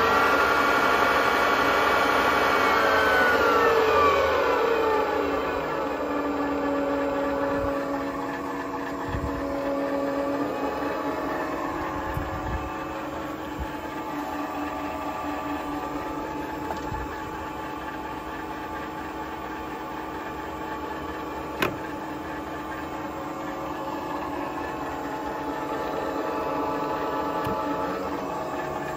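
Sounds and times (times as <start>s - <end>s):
milling machine motor humming: 0.0s - 28.9s.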